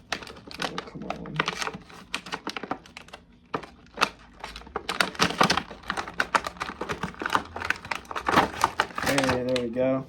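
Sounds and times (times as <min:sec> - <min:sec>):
packaging being forced open: 0:00.0 - 0:09.8.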